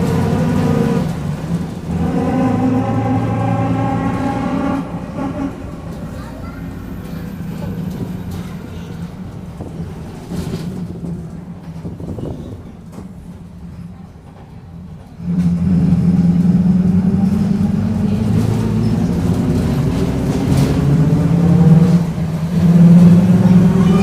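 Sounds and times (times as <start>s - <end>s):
bus engine droning: 0.0s - 24.0s.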